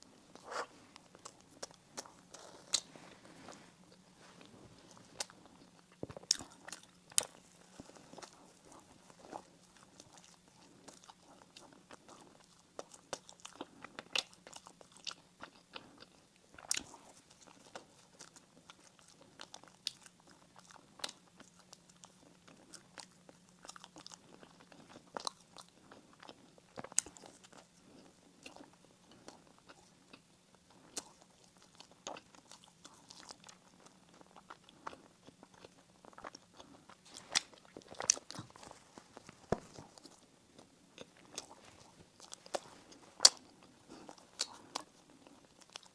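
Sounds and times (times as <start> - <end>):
biting and chewing bread: 0.0 - 45.9
faint low hum: 0.0 - 45.9.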